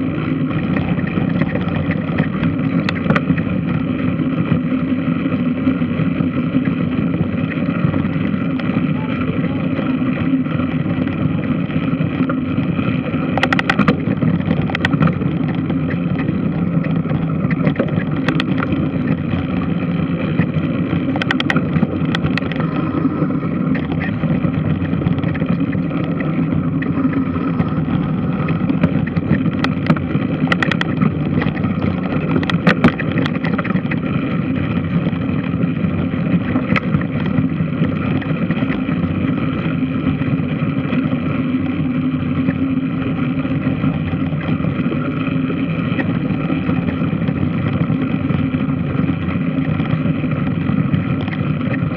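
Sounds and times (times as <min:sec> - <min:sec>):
washing machine drone: 0:00.0 - 0:51.9.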